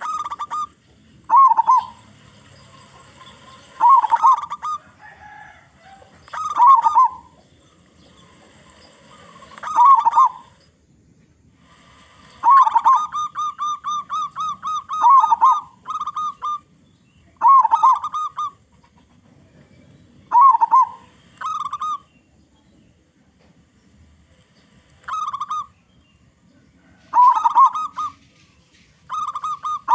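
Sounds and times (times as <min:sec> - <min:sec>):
dove cooing: 0:00.0 - 0:10.7, 0:11.6 - 0:22.2, 0:24.6 - 0:25.9, 0:26.5 - 0:29.9.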